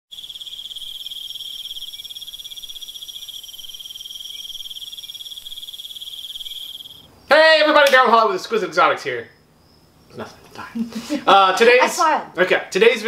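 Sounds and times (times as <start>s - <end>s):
cricket trilling: 0.1s - 13.0s.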